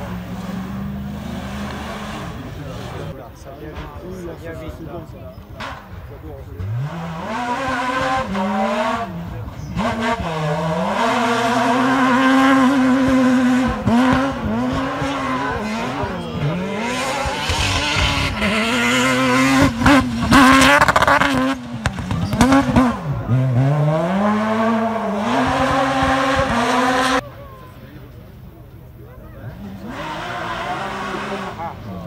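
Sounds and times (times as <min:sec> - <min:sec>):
rally car engine revving: 0:00.0 - 0:03.2, 0:05.4 - 0:27.2, 0:29.4 - 0:32.0.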